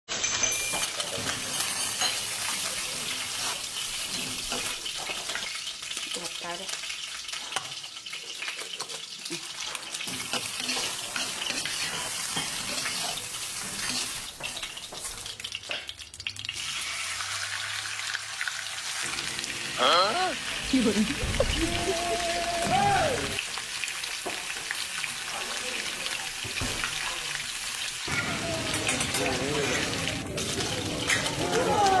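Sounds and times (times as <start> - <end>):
food sizzling in a pan: 0.1 - 32.0.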